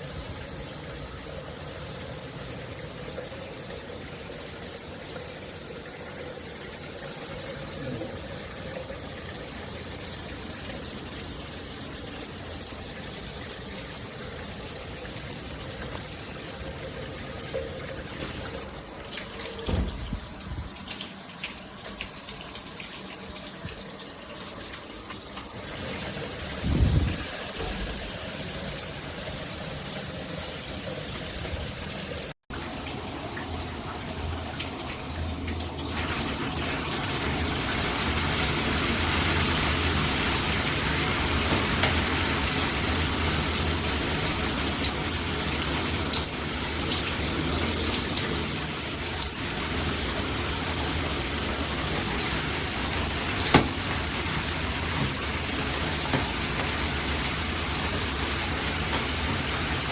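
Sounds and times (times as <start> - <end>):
shower water spraying: 6.5 - 59.9.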